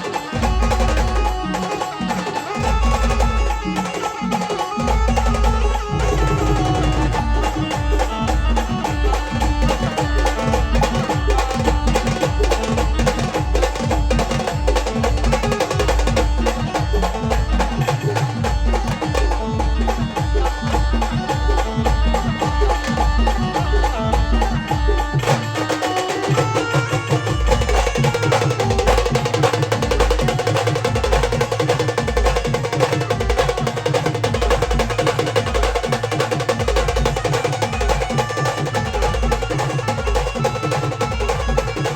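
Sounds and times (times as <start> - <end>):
pounding drum beat: 0.0 - 41.9
sustained melody line: 0.0 - 41.9.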